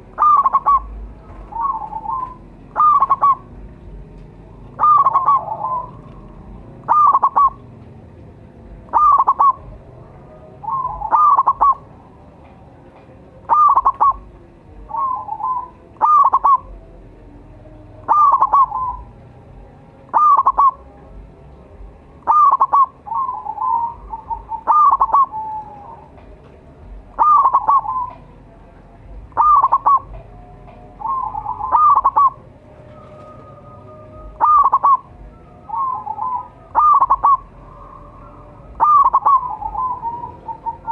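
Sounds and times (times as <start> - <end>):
dove cooing: 0.0 - 7.8, 8.7 - 12.2, 13.3 - 17.1, 17.7 - 21.3, 22.2 - 28.5, 29.1 - 40.9.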